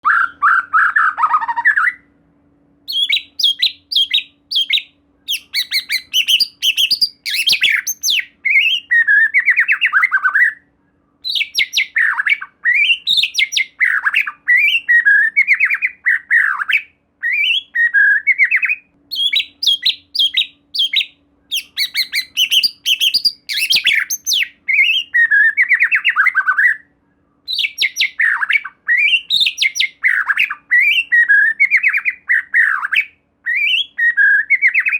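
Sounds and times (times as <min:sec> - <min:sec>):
bird singing whistled notes: 0:00.0 - 0:02.1, 0:02.9 - 0:34.9.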